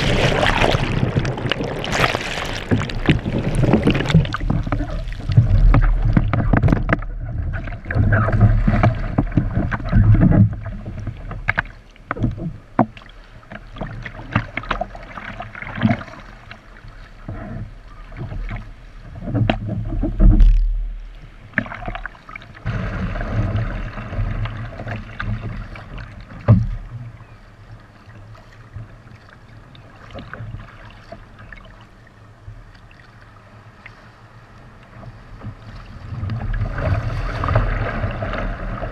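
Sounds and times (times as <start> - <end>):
paddle splashes: 0.0 - 38.9
water rushing against hull: 0.0 - 38.9.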